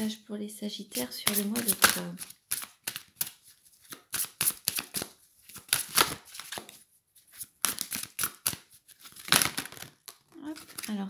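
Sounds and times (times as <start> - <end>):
cards being shuffled: 1.0 - 11.0.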